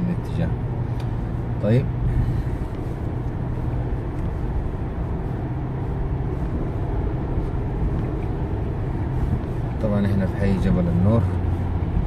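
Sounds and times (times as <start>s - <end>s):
car driving drone inside cabin: 0.0s - 12.0s.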